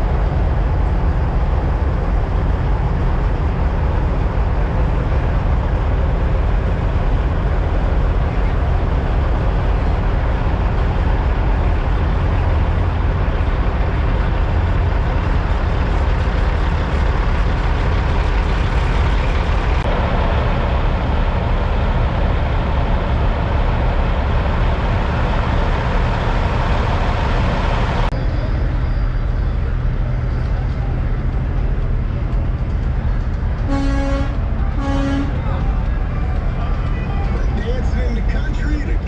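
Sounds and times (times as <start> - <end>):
diesel truck engines rumbling: 0.0 - 39.0.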